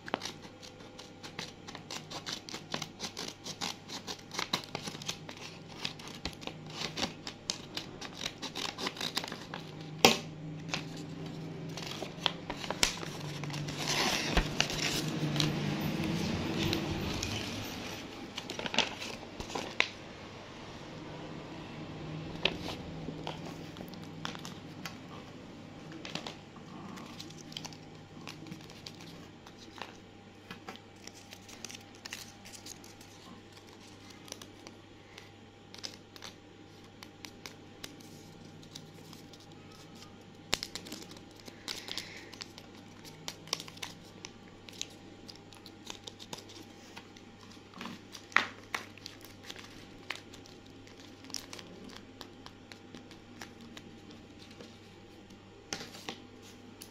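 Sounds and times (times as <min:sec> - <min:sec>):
sharp paper crackles: 0:00.0 - 0:17.6, 0:18.3 - 0:20.0, 0:27.0 - 0:54.8
paper crinkling and rustling: 0:00.0 - 0:20.0, 0:22.2 - 0:56.9.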